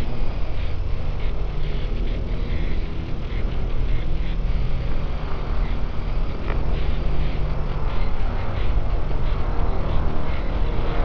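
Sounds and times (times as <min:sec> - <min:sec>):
deep rumble drone: 0:00.0 - 0:11.0
noisy hiss: 0:00.0 - 0:11.0.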